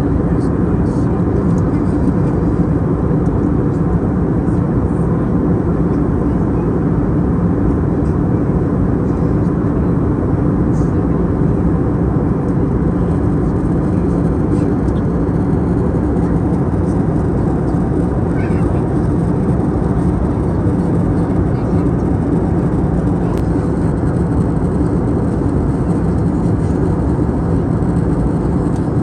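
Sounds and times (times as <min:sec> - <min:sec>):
airliner engine drone: 0:00.0 - 0:29.0
faint constant hum: 0:00.0 - 0:29.0.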